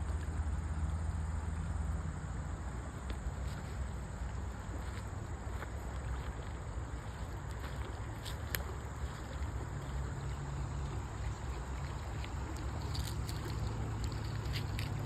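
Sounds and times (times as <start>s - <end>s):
water flowing: 2.6s - 15.0s.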